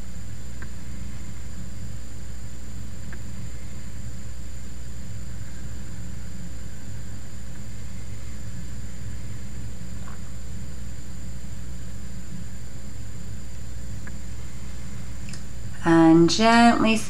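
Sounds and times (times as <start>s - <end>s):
faint hiss: 0.0s - 17.0s
low hum and rumble: 0.0s - 17.0s
thin high whine: 0.0s - 17.0s.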